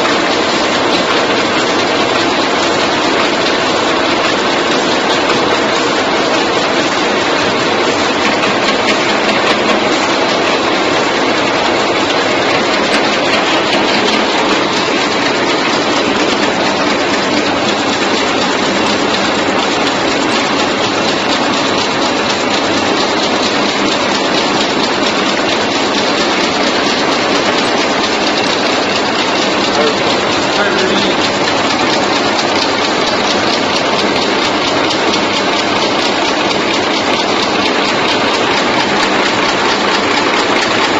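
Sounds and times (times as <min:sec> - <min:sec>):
wrapping machine clattering: 0:00.0 - 0:40.9.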